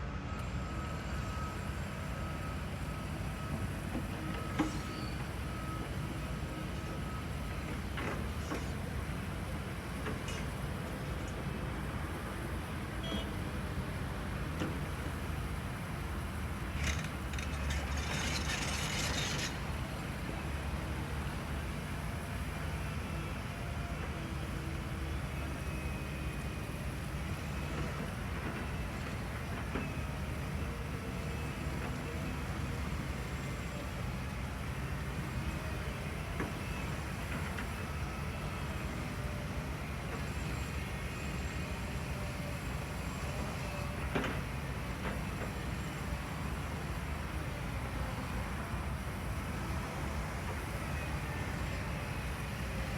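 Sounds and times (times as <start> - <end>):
model machines rumbling and whining: 0.2 - 52.9.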